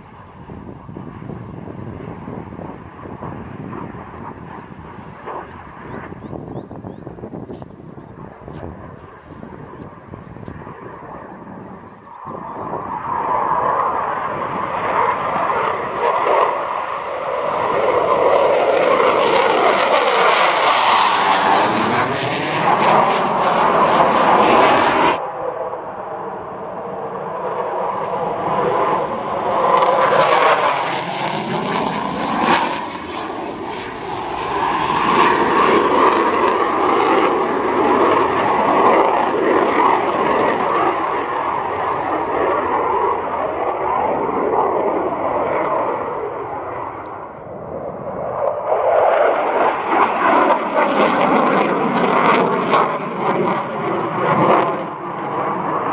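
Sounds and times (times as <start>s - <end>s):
fighter jet passing low: 0.0s - 55.9s.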